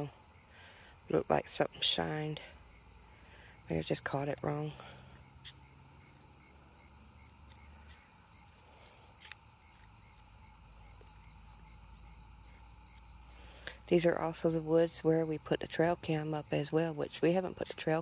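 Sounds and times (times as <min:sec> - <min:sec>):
faint crickets chirping: 0:00.0 - 0:18.0.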